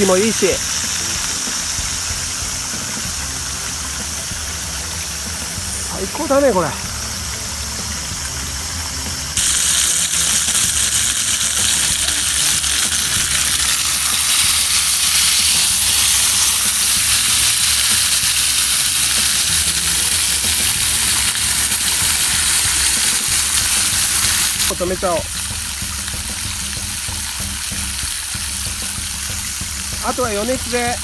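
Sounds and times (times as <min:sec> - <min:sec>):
steak sizzling in a skillet: 0:00.0 - 0:31.0.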